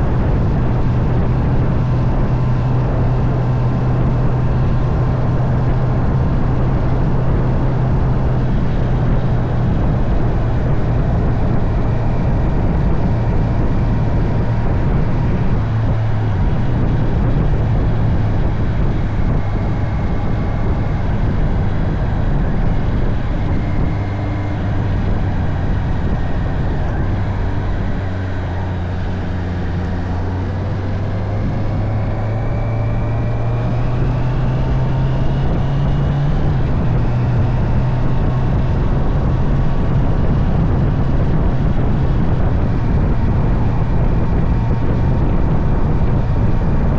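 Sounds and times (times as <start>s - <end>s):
motorcycle engine running: 0.0s - 46.9s
wind rush: 0.0s - 46.9s.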